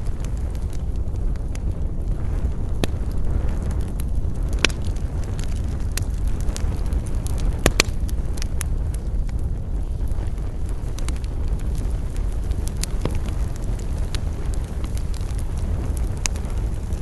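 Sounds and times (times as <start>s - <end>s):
campfire crackling: 0.0s - 17.0s
low fire rumble: 0.0s - 17.0s
sharp fire pops: 0.0s - 17.0s.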